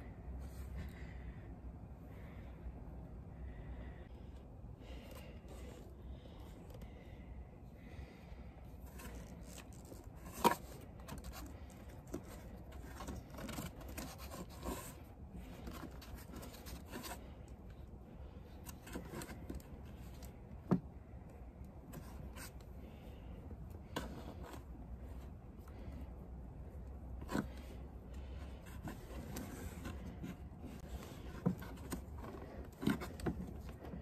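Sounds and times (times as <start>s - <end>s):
hand rubbing and scraping: 0.0s - 34.0s.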